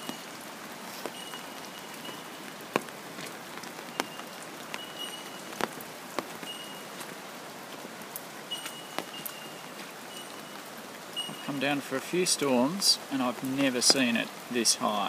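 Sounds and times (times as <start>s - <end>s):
heavy raindrops tapping: 0.0s - 15.0s
steady rain hiss: 0.0s - 15.0s.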